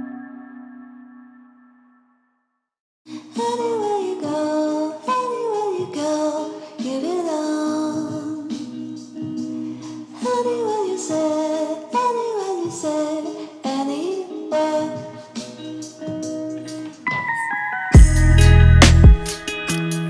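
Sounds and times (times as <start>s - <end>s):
background music with sung melody: 0.0s - 2.0s, 3.1s - 20.0s.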